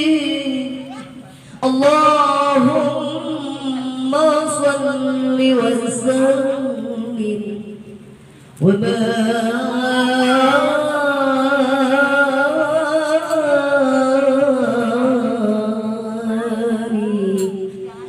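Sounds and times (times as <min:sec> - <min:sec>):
person chanting over a microphone: 0:00.0 - 0:08.0, 0:08.6 - 0:18.0.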